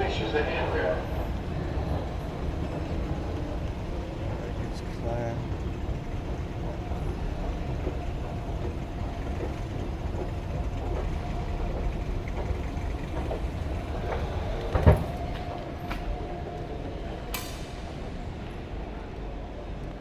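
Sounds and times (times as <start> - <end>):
escalator rumbling: 0.0 - 18.3.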